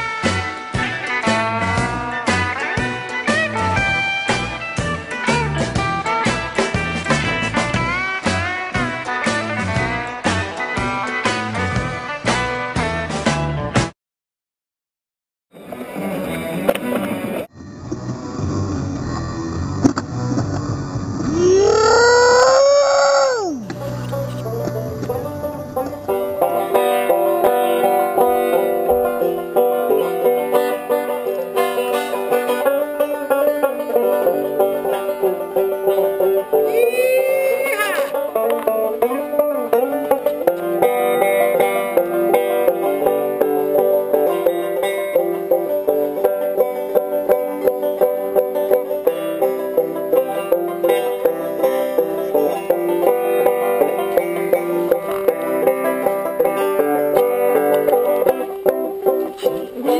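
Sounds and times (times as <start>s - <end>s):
banjo picking quick runs: 0.0s - 13.6s, 15.6s - 17.5s, 23.6s - 59.9s.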